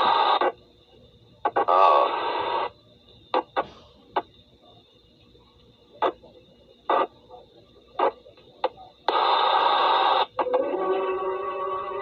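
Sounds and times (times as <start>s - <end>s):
faint hum: 0.0s - 12.0s
garbled radio transmission: 0.0s - 12.0s.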